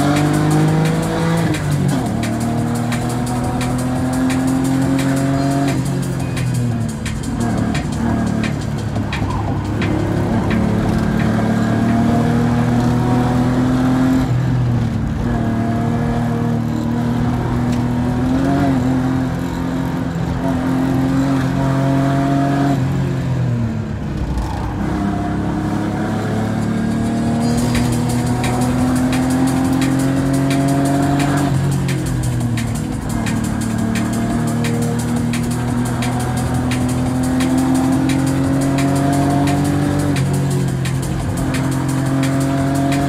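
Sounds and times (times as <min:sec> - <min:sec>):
car engine heard from cabin: 0:00.0 - 0:43.0.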